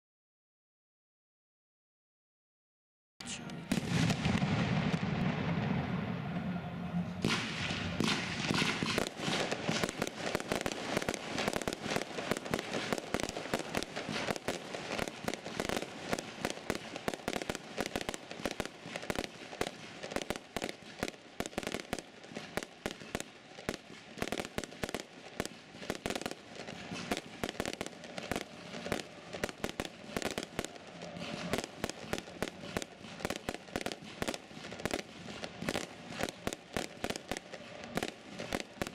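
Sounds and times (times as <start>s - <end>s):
fireworks popping and crackling: 3.3s - 6.1s, 7.2s - 38.9s.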